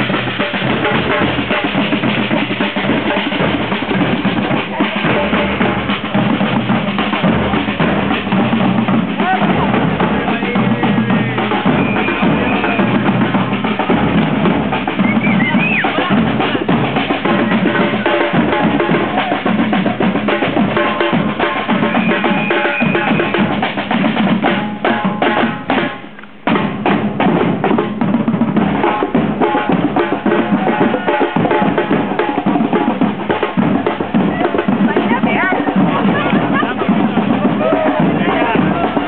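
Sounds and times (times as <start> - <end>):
group of drummers playing: 0.0 - 39.0.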